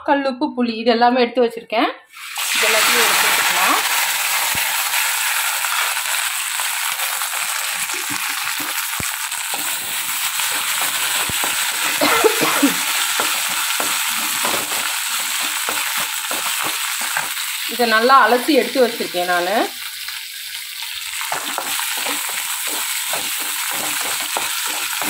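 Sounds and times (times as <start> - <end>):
spices sizzling in hot oil: 2.1 - 25.0.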